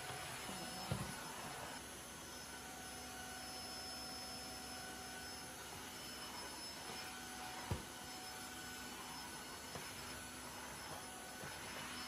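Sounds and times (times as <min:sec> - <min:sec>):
wet-dry vacuum humming: 0:00.0 - 0:12.0.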